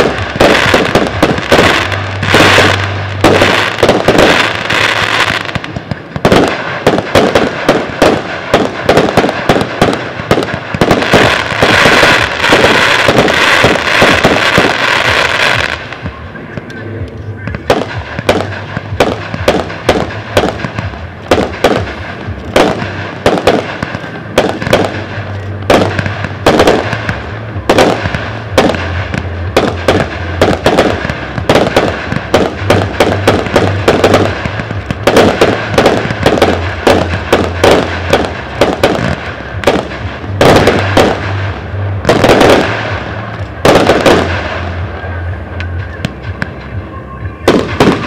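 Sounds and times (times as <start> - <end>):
crackling star bursts: 0.0 - 48.0
fireworks bangs: 0.0 - 48.0.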